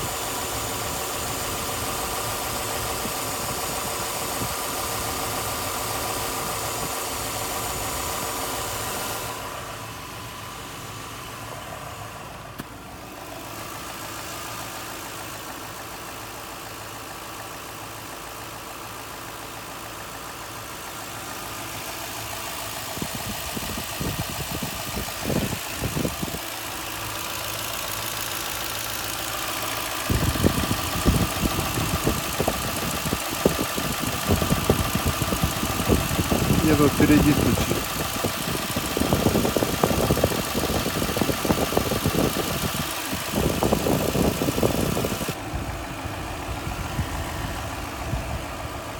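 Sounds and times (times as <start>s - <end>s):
engine knocking: 0.0s - 11.5s, 12.5s - 48.9s
car engine idling: 0.0s - 48.9s.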